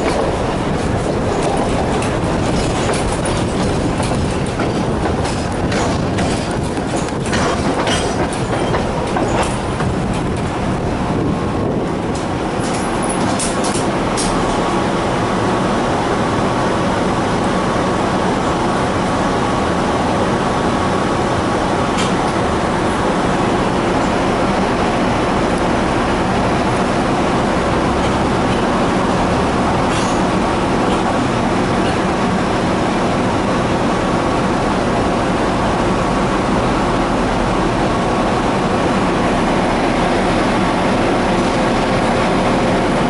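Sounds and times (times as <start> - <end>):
tram rumbling: 0.0 - 43.0
tram wheels clicking over rail joints: 0.0 - 43.0.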